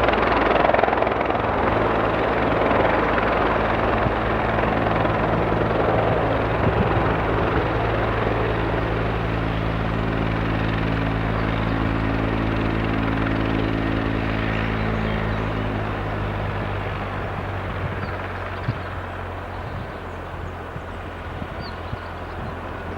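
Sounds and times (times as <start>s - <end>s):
helicopter rotors and turbines: 0.0s - 22.9s.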